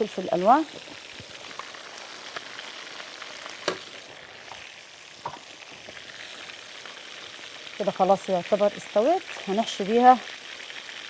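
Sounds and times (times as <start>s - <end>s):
meat and peppers sizzling in pan: 0.0s - 11.0s.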